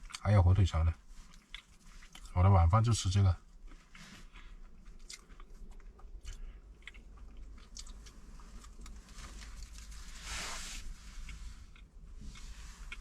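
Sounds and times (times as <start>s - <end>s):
chewing and biting cornmeal cake: 0.0s - 0.3s, 1.0s - 2.4s, 3.2s - 10.2s, 10.8s - 13.0s.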